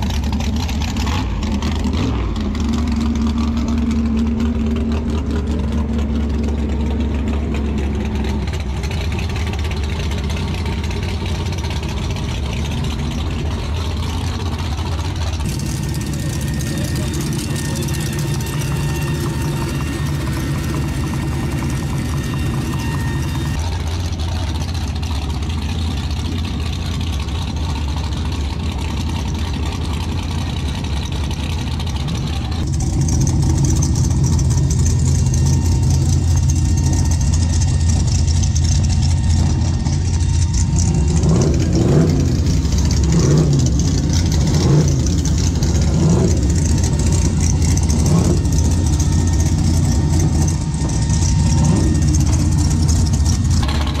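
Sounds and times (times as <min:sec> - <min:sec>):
engine throttle blips: 0:00.0 - 0:54.0
race car engines idling: 0:00.0 - 0:54.0.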